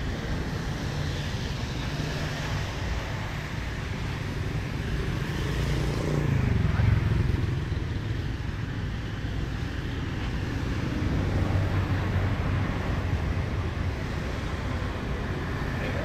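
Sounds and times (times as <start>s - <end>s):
passing vehicle engines: 0.0s - 16.0s
steady traffic hiss: 0.0s - 16.0s.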